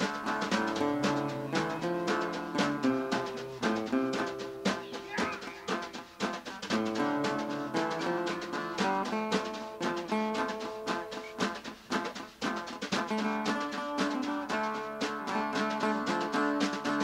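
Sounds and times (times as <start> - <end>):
drum beat: 0.0 - 17.0.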